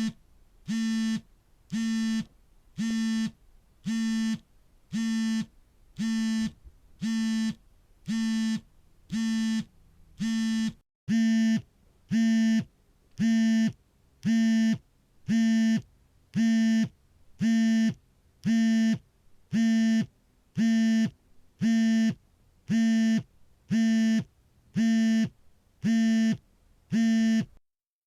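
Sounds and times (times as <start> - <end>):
smartphone vibrating buzz: 0.0 - 27.6.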